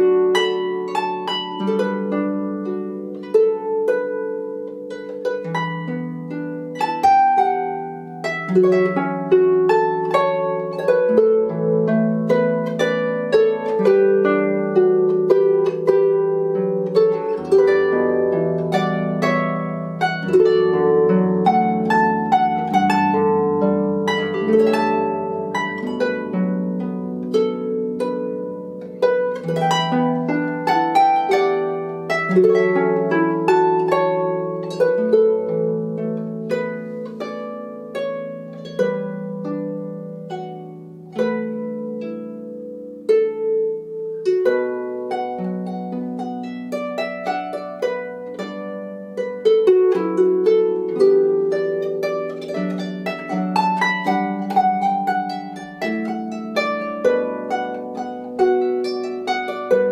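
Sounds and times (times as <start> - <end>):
harp plucked melody and chords: 0.0 - 59.9.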